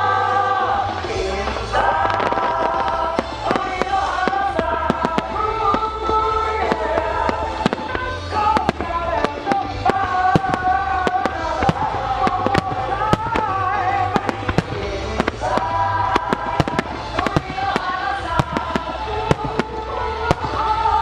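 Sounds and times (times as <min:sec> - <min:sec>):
fireworks bursting: 0:00.0 - 0:21.0
music with held notes: 0:00.0 - 0:21.0.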